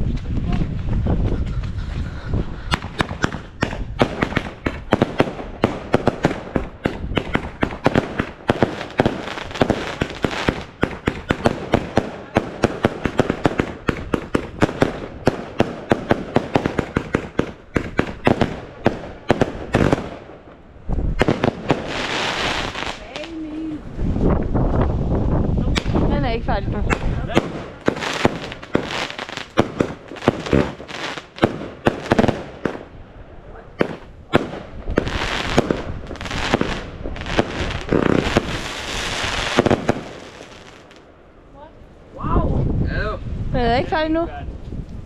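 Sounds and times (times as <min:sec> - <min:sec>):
fireworks banging: 0:00.0 - 0:33.0, 0:33.7 - 0:41.2.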